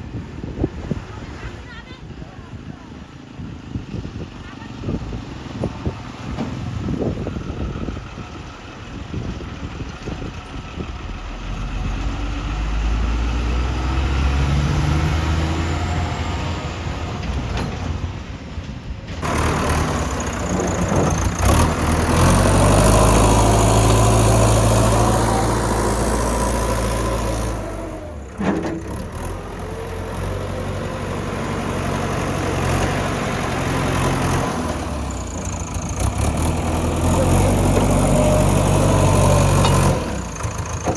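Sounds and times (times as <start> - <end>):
diesel engine revving under load: 4.1 - 18.4, 19.1 - 40.9.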